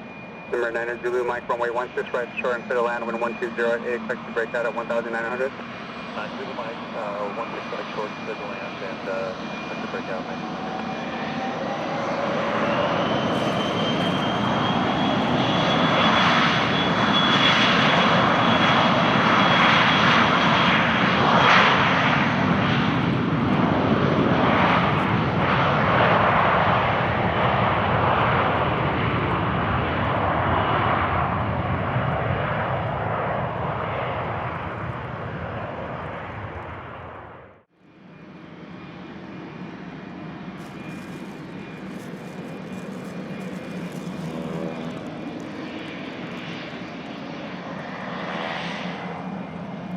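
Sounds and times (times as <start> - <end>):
aircraft engine whine: 0.0 - 49.9.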